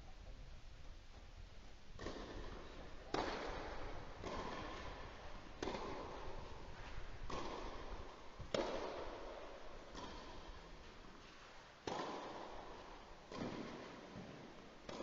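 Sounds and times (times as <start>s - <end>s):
tennis ball hits: 2.0s - 10.9s, 11.8s - 15.0s.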